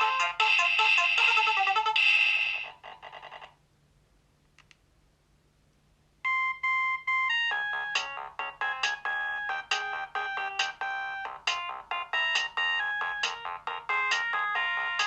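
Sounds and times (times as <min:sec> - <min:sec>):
mobile phone ringtone melody: 0:00.0 - 0:03.5, 0:06.2 - 0:15.0.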